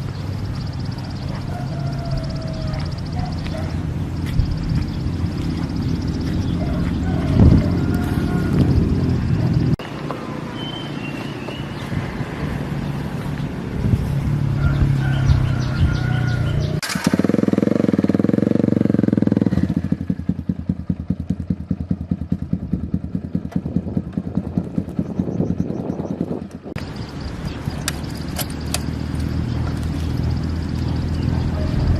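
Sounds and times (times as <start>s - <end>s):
small motorcycle engine: 0.0s - 10.6s, 11.8s - 31.9s.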